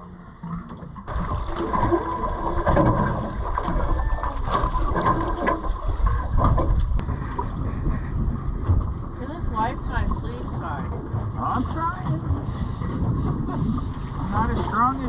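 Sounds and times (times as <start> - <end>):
water against boat hull: 0.0 - 15.0
wind buffeting microphone: 2.6 - 15.0.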